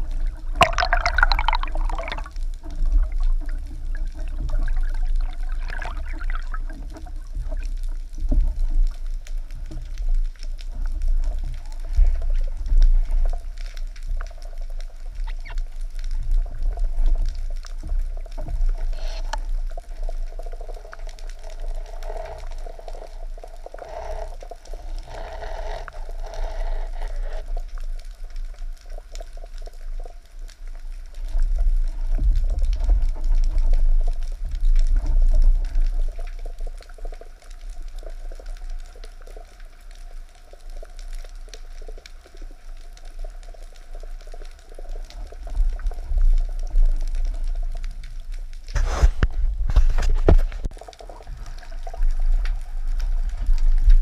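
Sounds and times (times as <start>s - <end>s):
crackling bubbles: 0.0s - 54.0s
low rumbling water movement: 0.0s - 54.0s.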